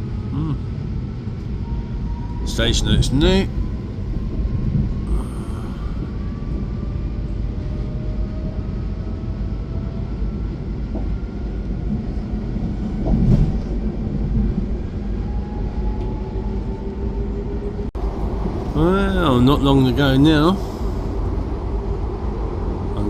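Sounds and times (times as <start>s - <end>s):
faint train whine: 0.0s - 23.0s
train wheels rumbling on track: 1.0s - 23.0s.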